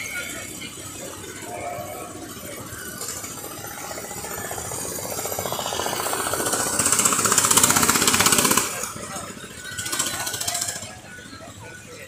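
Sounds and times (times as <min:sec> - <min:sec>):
go-kart engine pulsing: 0:00.0 - 0:12.0.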